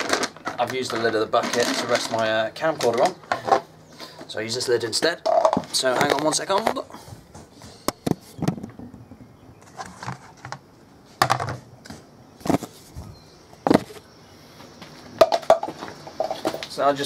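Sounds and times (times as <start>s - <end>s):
plastic lids clattering: 0.0s - 8.8s, 9.6s - 12.9s, 13.6s - 14.1s, 15.1s - 16.8s.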